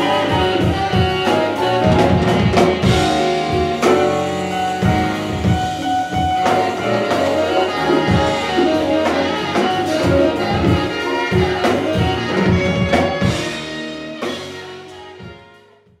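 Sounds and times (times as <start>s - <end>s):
jazz band playing: 0.0s - 15.9s
saxophone melody: 0.0s - 15.9s.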